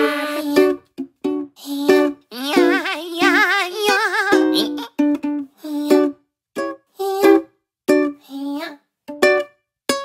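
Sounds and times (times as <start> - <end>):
plucked-sounding notes: 0.0 - 8.2, 9.1 - 10.0.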